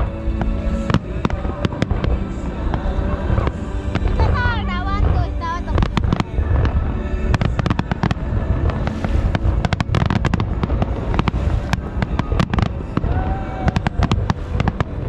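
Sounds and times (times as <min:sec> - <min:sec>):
fireworks bursting and crackling: 0:00.0 - 0:15.0
low booming rumble: 0:00.0 - 0:15.0.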